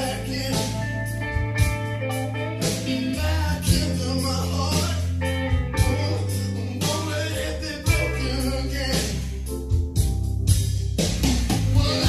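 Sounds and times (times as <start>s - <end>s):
blues-rock song over loudspeakers: 0.0s - 12.0s.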